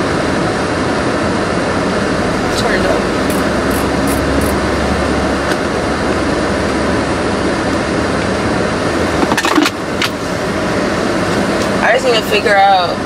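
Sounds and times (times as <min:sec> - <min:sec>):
car cabin hum and hiss: 0:00.0 - 0:13.0.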